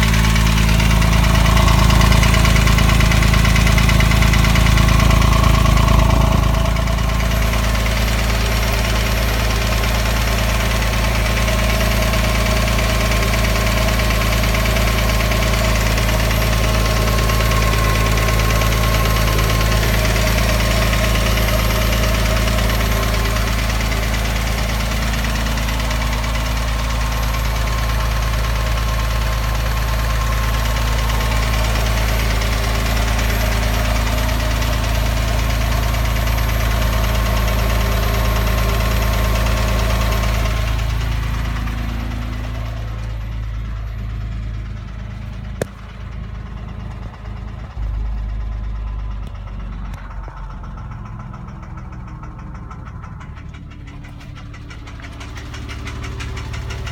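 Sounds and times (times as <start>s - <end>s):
car engine idling with knocking: 0.0s - 56.9s.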